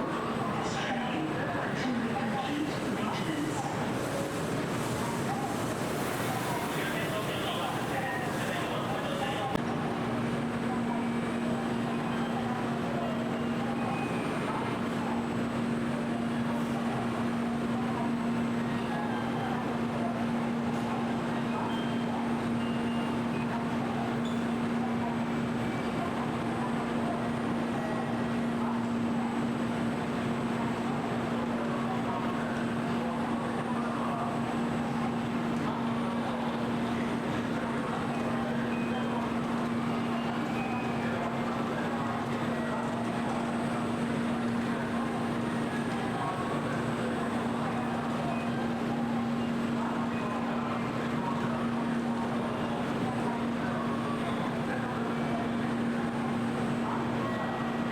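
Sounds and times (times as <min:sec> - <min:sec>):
faint background voices: 0:00.0 - 0:57.9.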